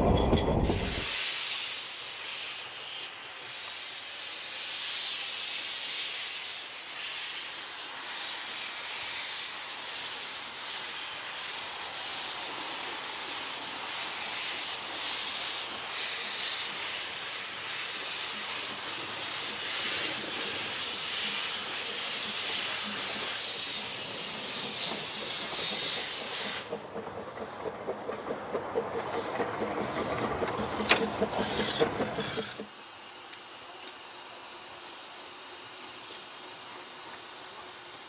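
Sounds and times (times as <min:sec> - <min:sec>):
clatter of train wheels: 0:00.0 - 0:34.0, 0:35.6 - 0:38.0
steam hissing from locomotive: 0:00.6 - 0:38.0.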